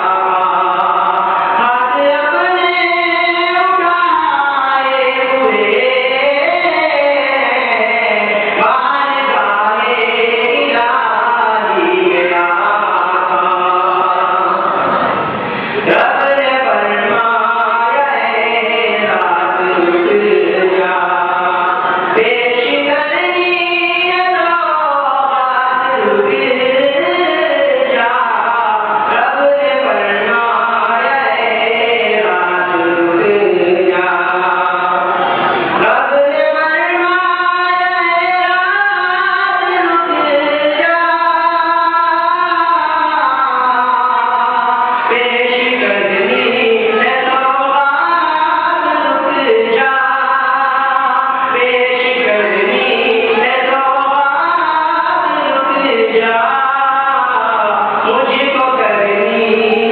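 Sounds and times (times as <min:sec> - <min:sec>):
young man chanting into a microphone: 0:00.0 - 0:59.9.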